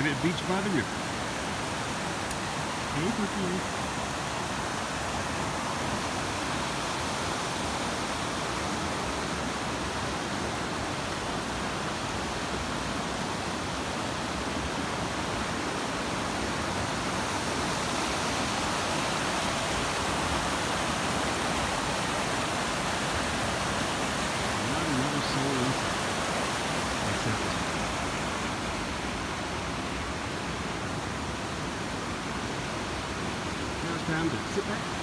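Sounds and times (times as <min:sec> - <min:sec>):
river rushing over boulders: 0:00.0 - 0:35.0.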